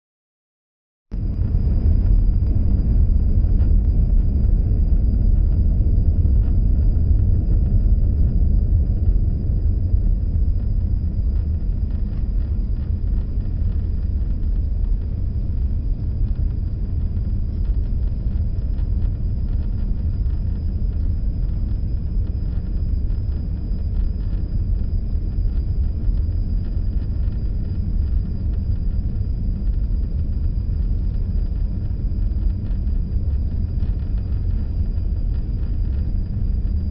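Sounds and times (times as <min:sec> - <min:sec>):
faint thin high whine: 0:01.2 - 0:36.9.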